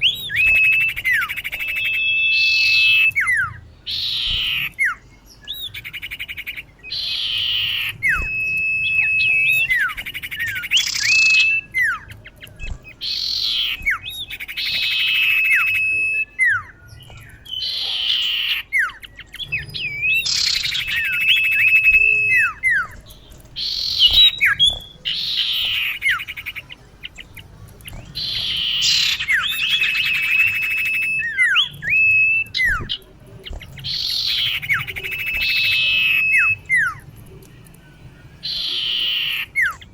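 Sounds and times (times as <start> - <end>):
bird buzzy chatter and whistles: 0.0 - 39.9.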